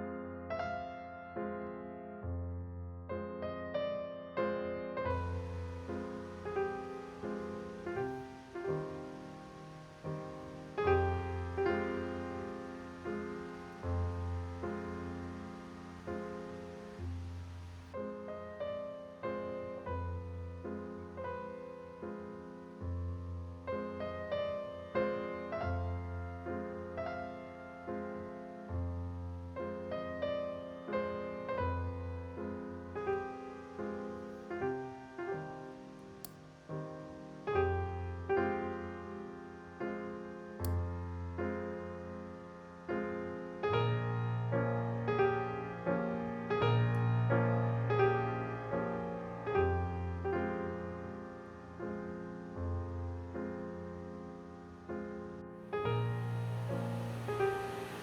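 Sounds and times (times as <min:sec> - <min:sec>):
soft piano chords: 0:00.0 - 0:58.0.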